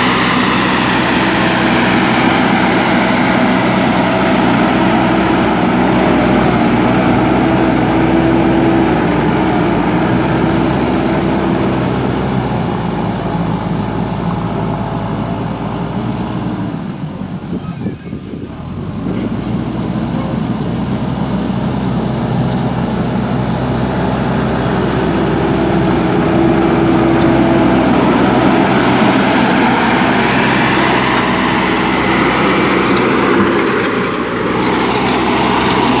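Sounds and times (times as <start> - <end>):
diesel engine under load: 0.0 - 36.0.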